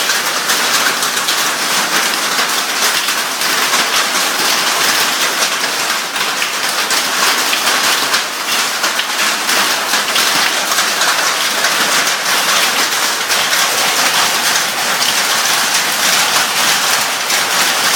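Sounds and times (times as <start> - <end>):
heavy rain falling: 0.0 - 17.9.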